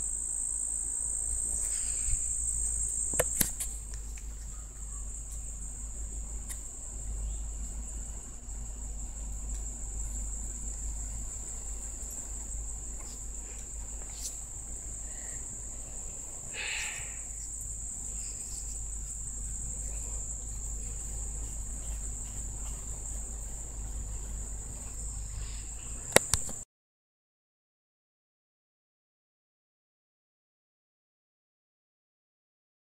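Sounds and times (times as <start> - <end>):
insects trilling: 0.0 - 26.6.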